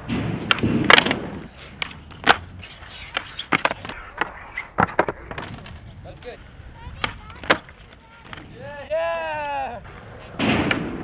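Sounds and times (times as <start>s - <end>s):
skateboard clacks: 0.0s - 11.0s.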